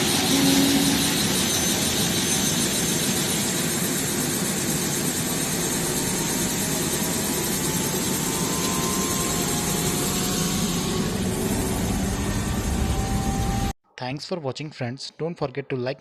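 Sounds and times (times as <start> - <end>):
helicopter turbine engine starting: 0.0 - 13.8
rising turbine whine: 0.0 - 13.8.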